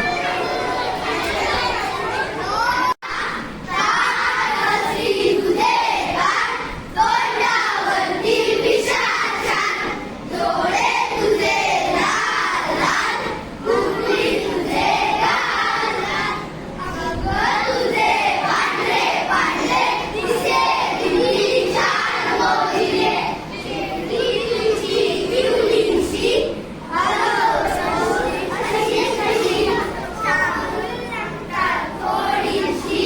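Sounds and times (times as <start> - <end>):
children singing and shouting: 0.0 - 33.0.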